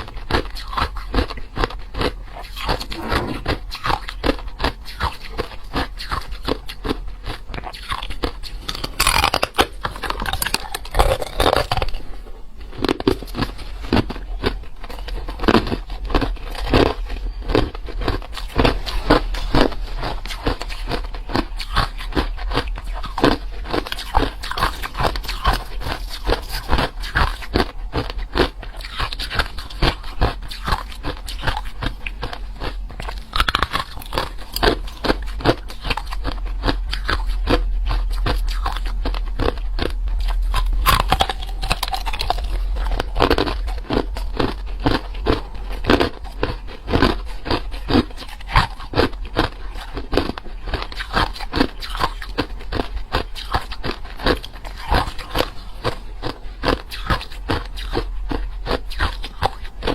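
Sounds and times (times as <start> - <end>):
ice being chewed: 0.0 - 59.9
steady low hum: 0.0 - 59.9.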